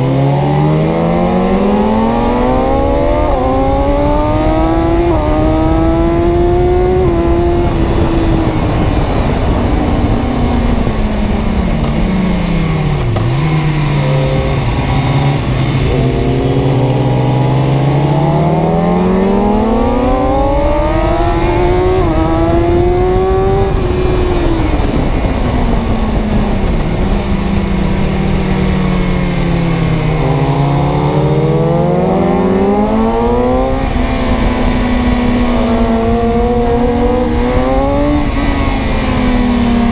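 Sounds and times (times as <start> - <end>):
car engine under load: 0.0 - 39.9.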